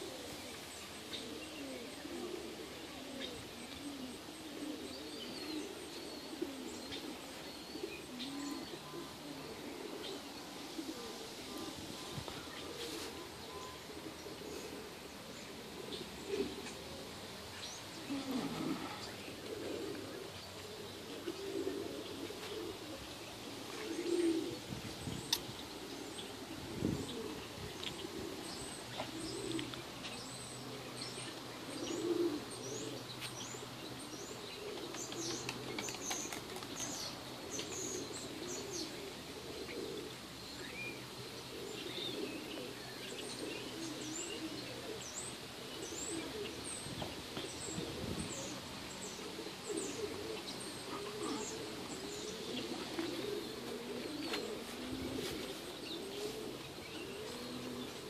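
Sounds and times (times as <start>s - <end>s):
dove cooing: 0.0s - 58.0s
small birds chirping: 0.0s - 58.0s.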